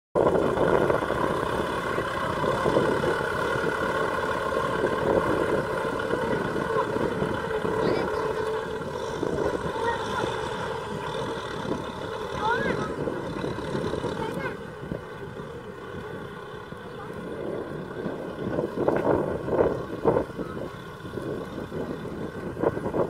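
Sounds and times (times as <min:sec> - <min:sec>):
tractor engine under load: 0:00.2 - 0:23.0.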